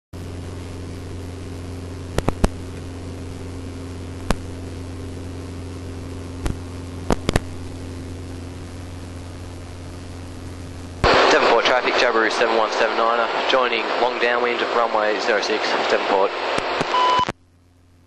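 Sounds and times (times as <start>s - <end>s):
light aircraft engine droning: 0.2s - 17.8s.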